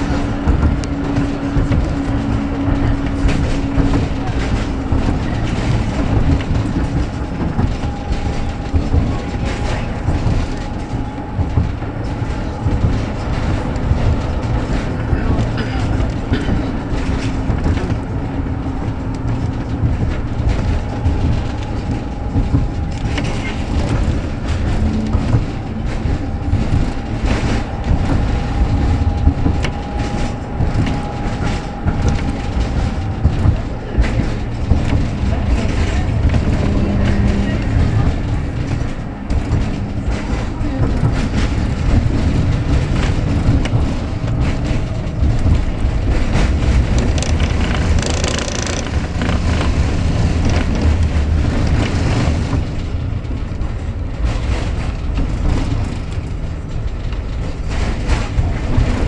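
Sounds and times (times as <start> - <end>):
clicks and knocks: 0.0 - 52.7
tram wheels rumbling on rail: 0.0 - 59.0.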